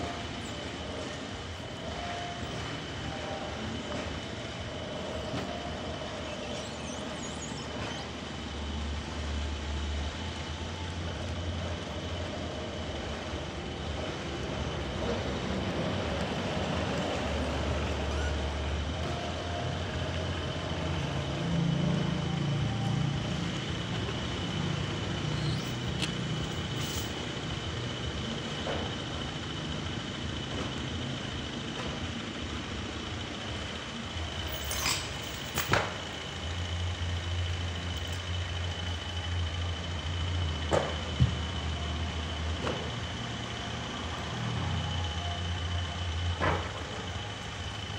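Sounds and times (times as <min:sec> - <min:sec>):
saw high whine: 0:00.0 - 0:40.7
sawmill engine rumble: 0:00.0 - 0:47.9.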